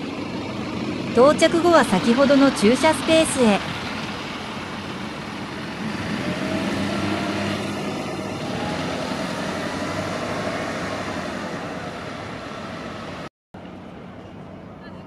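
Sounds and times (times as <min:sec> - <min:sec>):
bus engine pulling away: 0:00.0 - 0:15.0.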